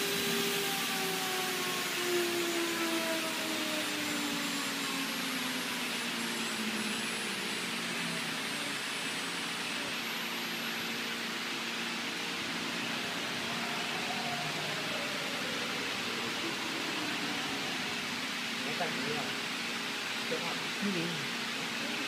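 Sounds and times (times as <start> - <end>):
cnc router hiss: 0.0 - 22.0
motor whines shifting pitch: 0.0 - 22.0.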